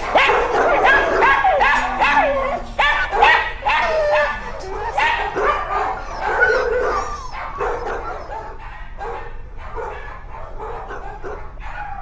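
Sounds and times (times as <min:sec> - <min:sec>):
dog barking and yipping: 0:00.0 - 0:12.0.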